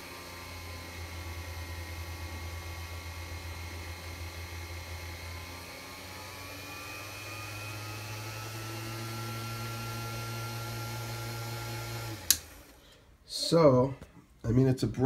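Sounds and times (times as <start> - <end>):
lathe motor hum and whine: 0.0 - 12.8.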